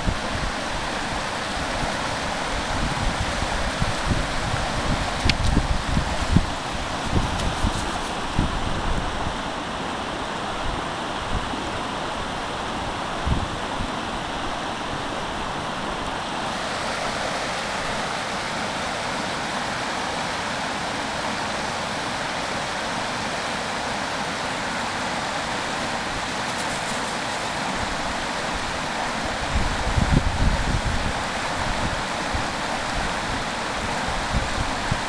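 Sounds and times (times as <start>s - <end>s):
creek rushing over stones: 0.0s - 35.0s.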